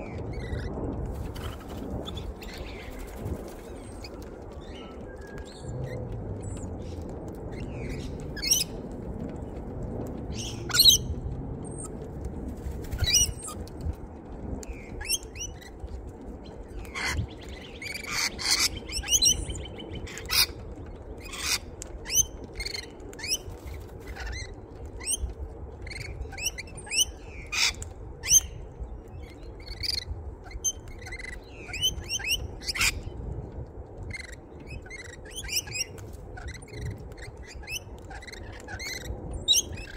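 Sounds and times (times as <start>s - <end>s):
birds chirping and squawking: 0.0s - 9.4s, 10.2s - 33.2s, 33.9s - 39.9s
low steady rumble: 0.0s - 39.9s.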